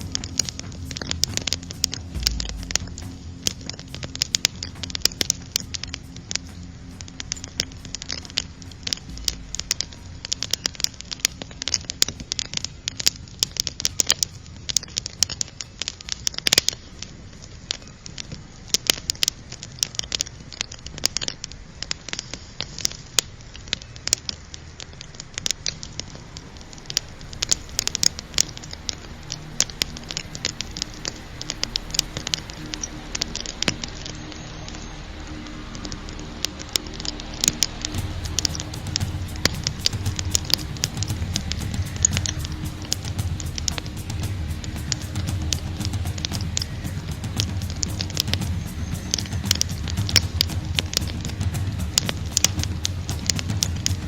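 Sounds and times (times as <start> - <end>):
fire hiss: 0.0 - 54.0
wood fire crackling: 0.0 - 54.0.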